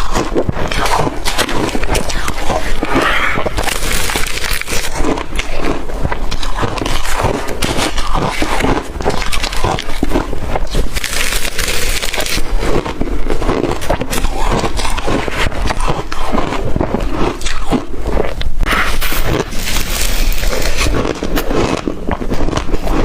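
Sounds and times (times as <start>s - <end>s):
chewing crushed ice: 0.0s - 23.0s.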